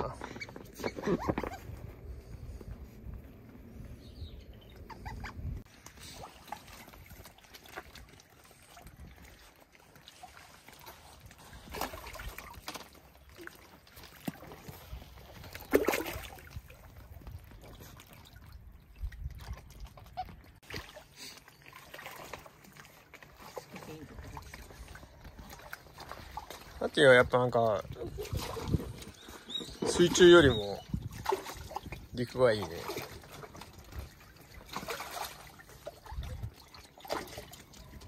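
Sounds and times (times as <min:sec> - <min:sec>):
small water splashes: 0:05.6 - 0:38.0.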